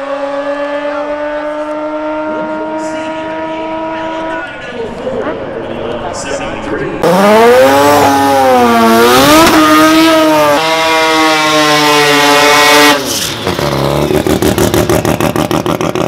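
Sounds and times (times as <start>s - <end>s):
race car engine revving: 0.0s - 4.6s, 7.0s - 16.0s.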